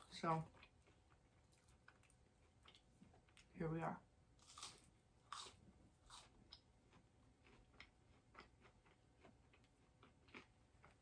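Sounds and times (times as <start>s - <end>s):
faint chewing of fries: 0.0s - 3.6s, 4.4s - 11.0s.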